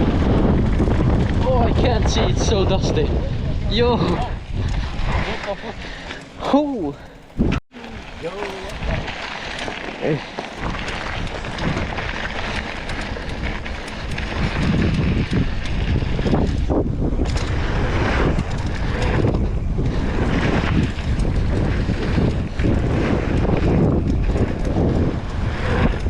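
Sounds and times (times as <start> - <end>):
tyres on dirt trail: 0.0 - 26.0
wind buffeting microphone: 0.0 - 26.0.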